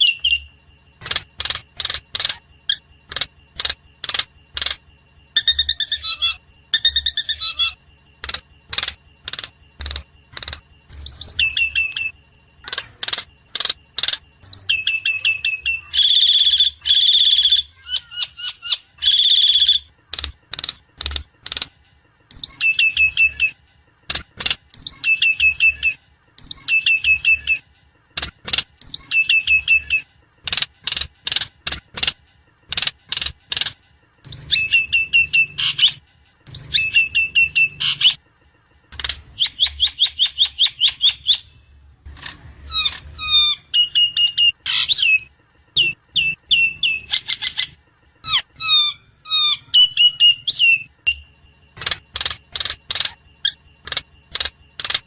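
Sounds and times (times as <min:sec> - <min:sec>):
harsh buzzy bird calls: 0:00.0 - 0:55.0.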